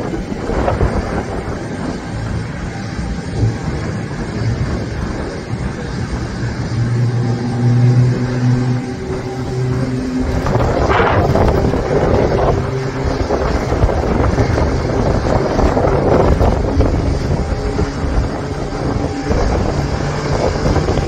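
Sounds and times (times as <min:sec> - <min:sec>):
jet engines rumbling: 0:00.0 - 0:21.0
low hum: 0:00.0 - 0:21.0
wind buffeting microphone: 0:00.0 - 0:21.0.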